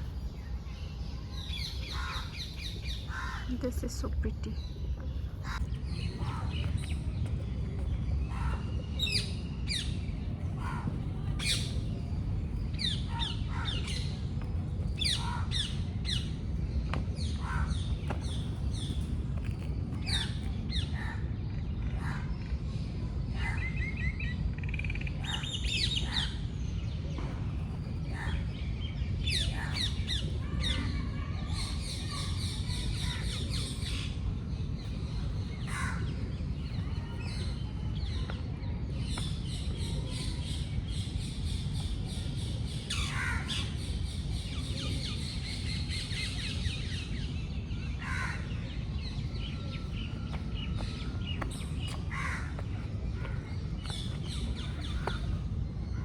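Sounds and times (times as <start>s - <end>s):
birds chirping and squawking: 0.1s - 38.2s, 39.0s - 56.0s.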